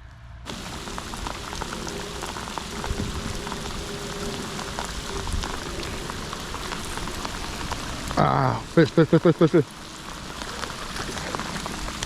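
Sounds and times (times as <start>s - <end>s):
steady rain falling: 0.5s - 12.0s.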